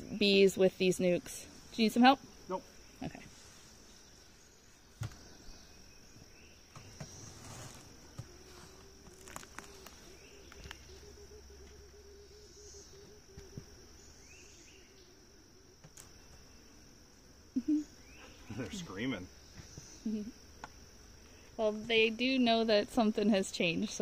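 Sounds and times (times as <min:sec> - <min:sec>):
high insect trill: 0:00.0 - 0:24.0
honeybees buzzing: 0:00.0 - 0:24.0.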